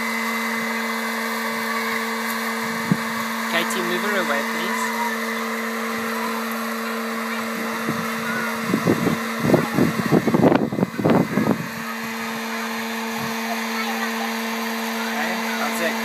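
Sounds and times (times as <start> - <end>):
fan motor humming: 0.0 - 16.0.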